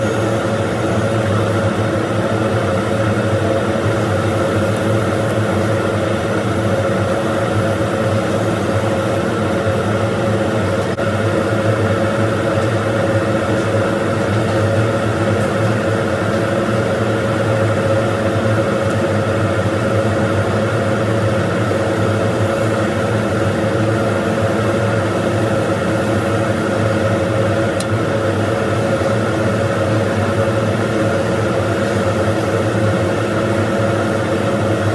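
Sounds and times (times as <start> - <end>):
welding machine buzz and hum: 0.0 - 34.9.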